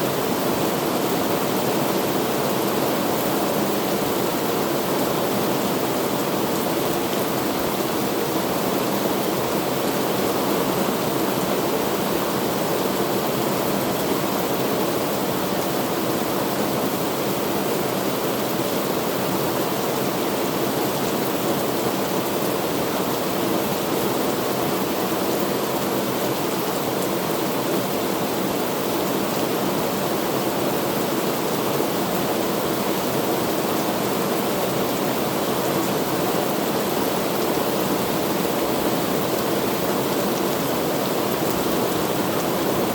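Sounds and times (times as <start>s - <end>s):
heavy rain hiss: 0.0s - 42.9s.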